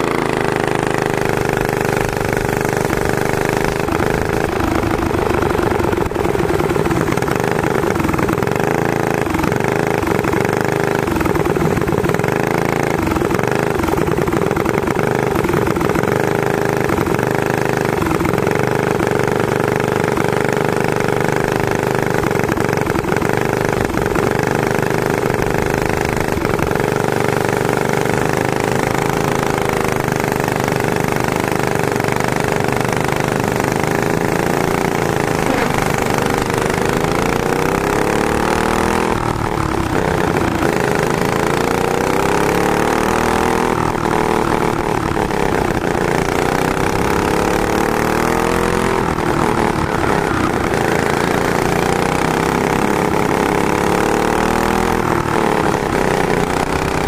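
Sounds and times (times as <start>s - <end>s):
go-kart engine running hard: 0.0s - 57.0s
other kart engines: 0.0s - 57.0s.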